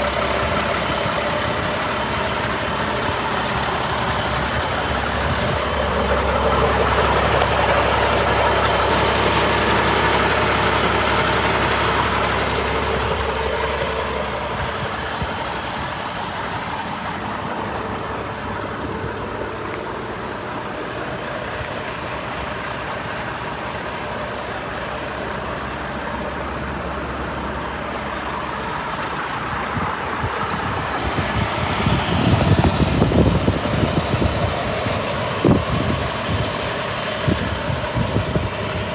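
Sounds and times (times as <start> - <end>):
diesel engine idling: 0.0 - 38.9
low rumbling buffets: 0.0 - 38.9.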